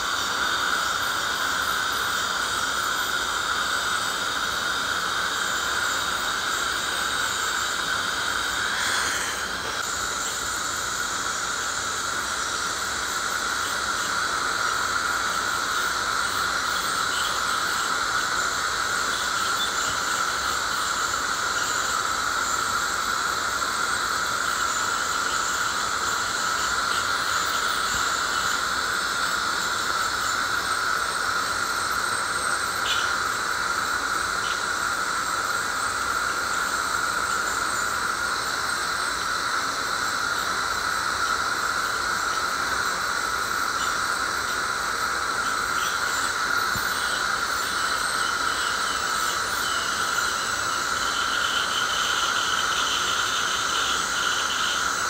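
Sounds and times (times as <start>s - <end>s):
ultrasonic scaler whine: 0.0s - 55.0s
water spray hiss: 0.0s - 55.0s.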